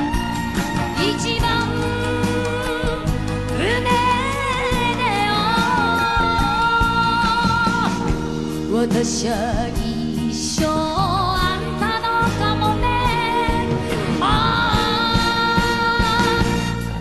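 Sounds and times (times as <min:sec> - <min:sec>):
woman singing ballad: 0:00.0 - 0:17.0.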